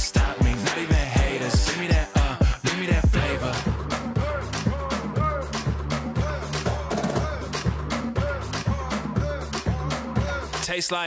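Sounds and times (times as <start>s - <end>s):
hip hop backing track: 0.0s - 11.0s
person rapping: 0.0s - 11.0s.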